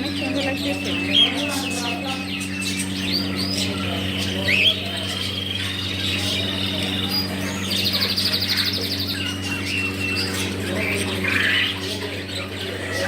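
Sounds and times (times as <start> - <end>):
rapid high bird trill: 0.0 - 13.0
small birds chirping: 0.0 - 13.0
steady low hum: 0.0 - 13.0.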